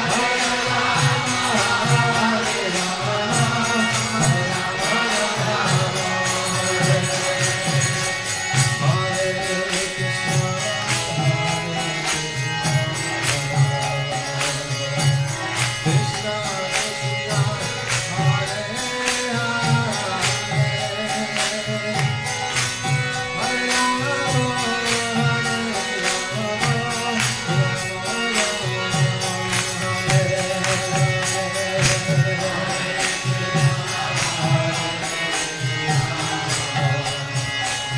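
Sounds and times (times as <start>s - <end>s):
music with steady beat: 0.0s - 37.9s.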